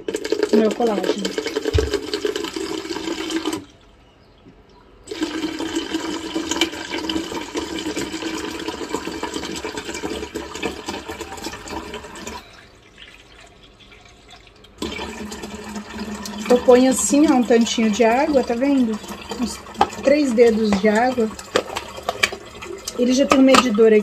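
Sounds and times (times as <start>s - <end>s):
water running into a cup: 0.0s - 3.7s, 5.1s - 24.0s.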